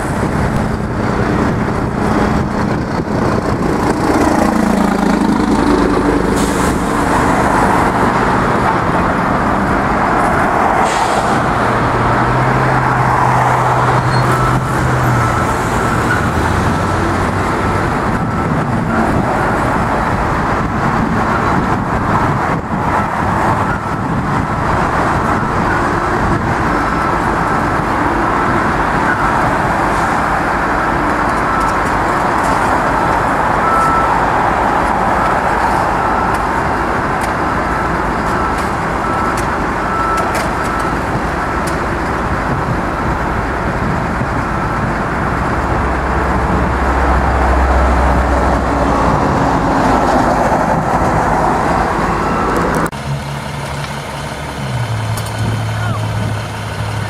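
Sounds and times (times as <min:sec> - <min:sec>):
vehicles passing close by: 0:00.0 - 0:57.0.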